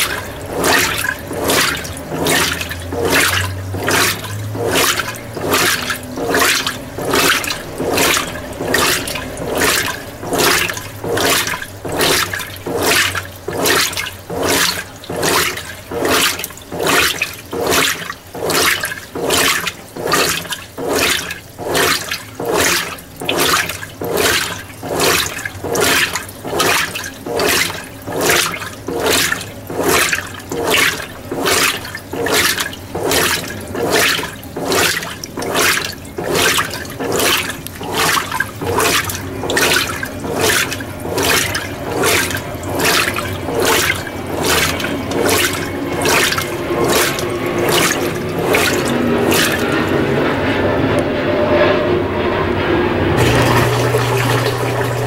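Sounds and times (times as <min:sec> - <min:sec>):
washing machine sloshing: 0:00.0 - 0:55.0.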